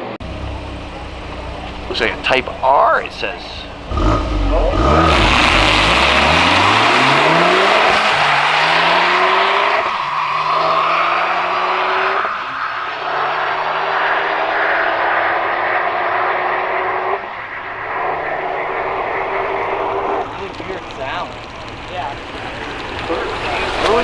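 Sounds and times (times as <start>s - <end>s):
car accelerating through gears: 0.2s - 24.0s.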